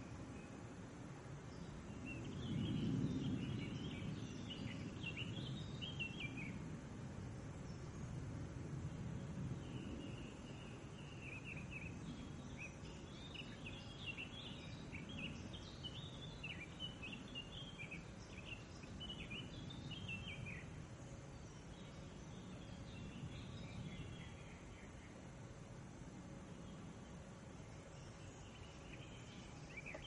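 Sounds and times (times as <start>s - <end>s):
songbird chirping: 0.0s - 30.0s
steady low rumble: 0.0s - 30.0s.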